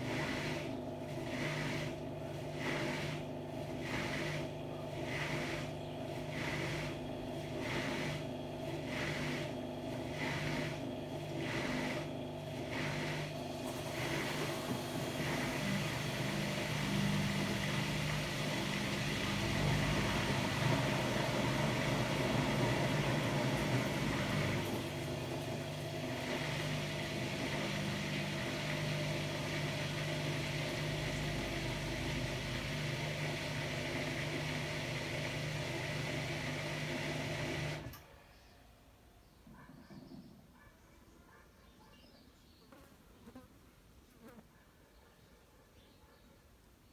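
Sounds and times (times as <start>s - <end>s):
washer-dryer humming: 0.0s - 38.2s.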